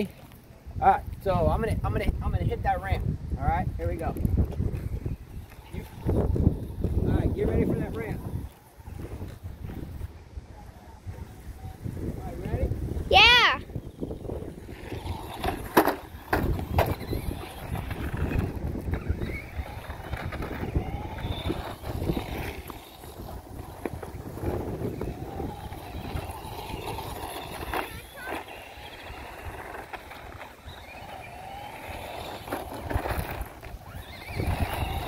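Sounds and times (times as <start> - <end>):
low wind rumble: 0.0 - 35.0
toy truck electric motor whine: 4.1 - 35.0.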